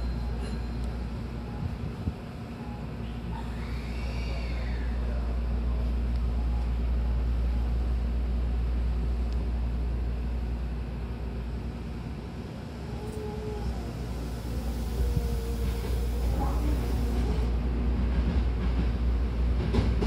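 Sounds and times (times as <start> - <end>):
train low rumble: 0.0 - 20.0.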